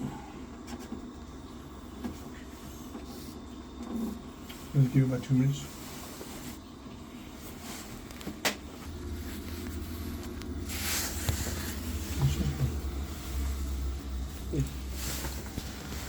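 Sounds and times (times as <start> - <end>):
boiler low hum: 0.0 - 16.0.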